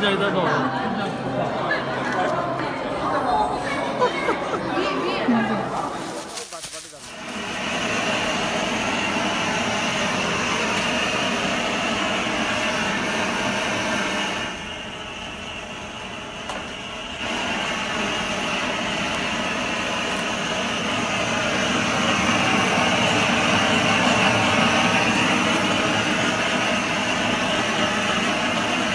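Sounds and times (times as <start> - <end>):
blowtorch flame hissing: 5.6 - 28.9.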